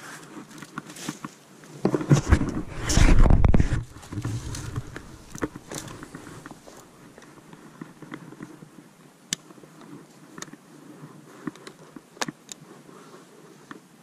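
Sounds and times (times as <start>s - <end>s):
rustling clothing and leaves: 0.0s - 14.0s.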